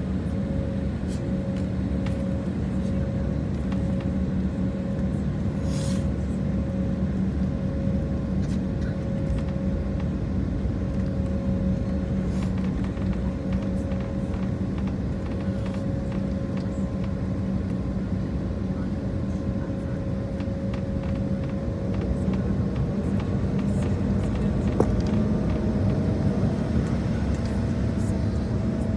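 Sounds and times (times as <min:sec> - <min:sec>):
jet engines rumbling in cabin: 0:00.0 - 0:28.9.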